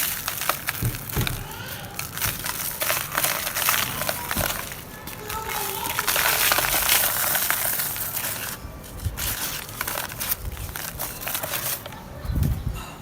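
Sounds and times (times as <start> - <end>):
dry dirt crunching: 0.0 - 12.7.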